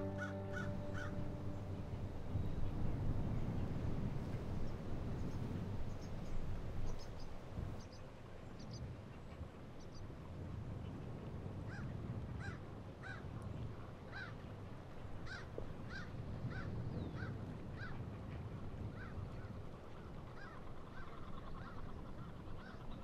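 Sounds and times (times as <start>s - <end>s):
low rumble of wind: 0.0s - 23.0s.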